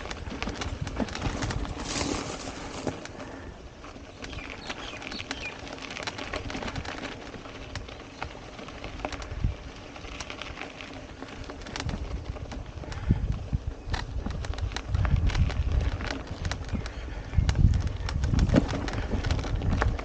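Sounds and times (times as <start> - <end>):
tyres crunching on dirt and stones: 0.0 - 17.0
bike clicks and rattles: 0.0 - 20.0.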